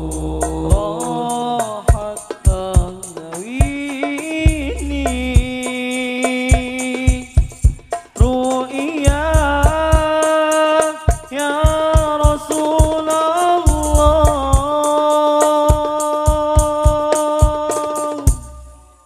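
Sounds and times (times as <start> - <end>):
frame drums: 0.0 - 19.0
man singing high notes: 0.0 - 19.0.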